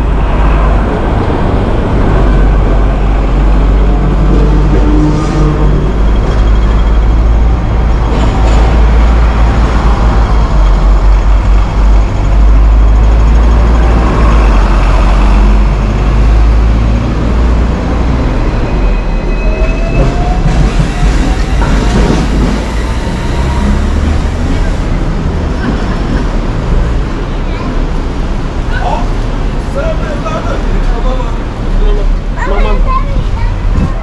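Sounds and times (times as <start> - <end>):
city traffic rumble: 0.0 - 34.0.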